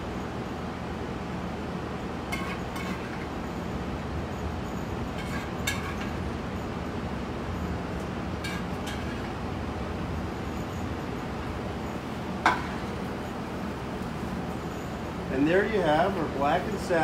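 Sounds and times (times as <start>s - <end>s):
low kitchen hum: 0.0s - 17.0s.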